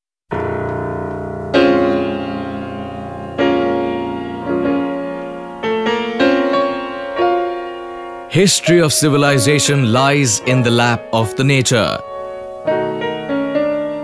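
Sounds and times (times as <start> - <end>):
slow piano chords: 0.3 - 14.0.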